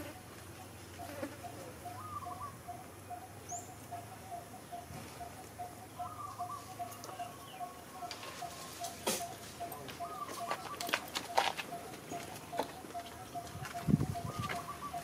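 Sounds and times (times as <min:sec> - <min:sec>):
warbling bird trills: 0:00.1 - 0:15.0
faint high bird chirp: 0:01.0 - 0:15.0.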